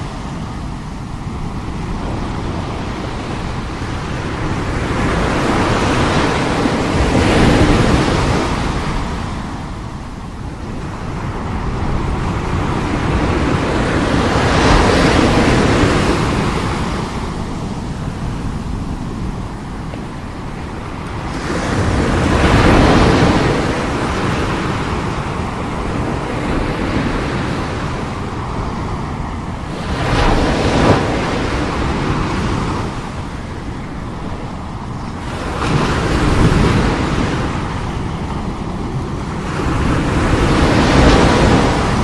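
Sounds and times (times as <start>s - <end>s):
sea waves crashing on shore: 0.0s - 42.0s
wind rumble on microphone: 0.0s - 42.0s.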